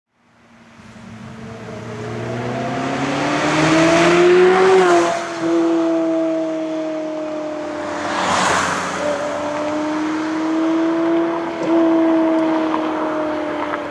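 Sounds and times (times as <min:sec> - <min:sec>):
car engine accelerating past: 0:00.8 - 0:13.9.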